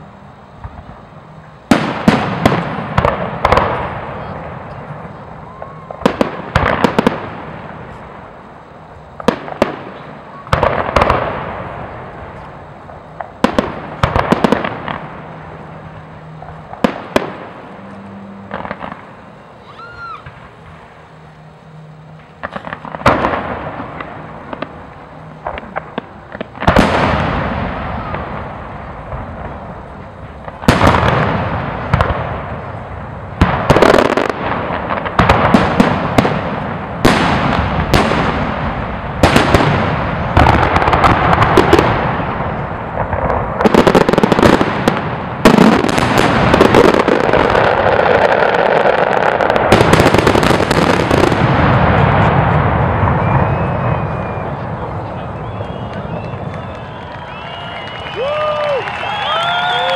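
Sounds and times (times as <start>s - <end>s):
crackling firework stars: 0.0s - 59.9s
firework booms with echoing tail: 0.6s - 8.4s, 9.2s - 17.8s, 18.4s - 19.2s, 22.4s - 56.9s.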